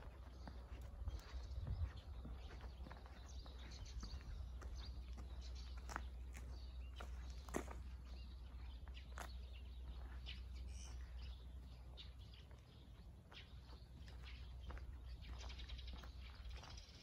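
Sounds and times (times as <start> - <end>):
small bird chirping: 0.0 - 17.0
soft footsteps: 0.0 - 17.0.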